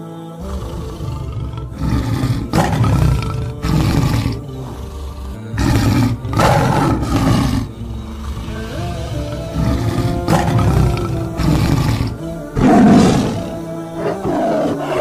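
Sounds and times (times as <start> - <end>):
background music: 0.0 - 15.0
lions roaring: 0.5 - 15.0.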